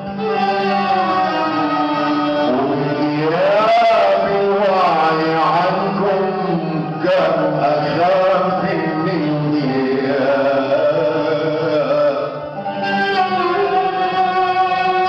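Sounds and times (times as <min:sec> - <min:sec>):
qanun and oud: 0:00.0 - 0:15.0
man singing: 0:00.3 - 0:15.0.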